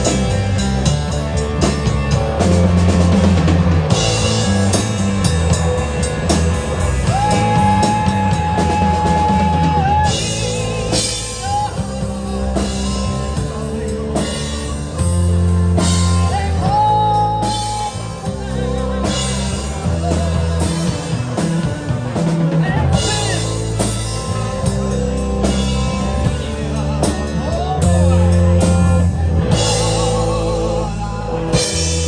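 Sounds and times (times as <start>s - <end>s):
drum kit: 0.0s - 32.0s
electric guitars: 0.0s - 32.0s.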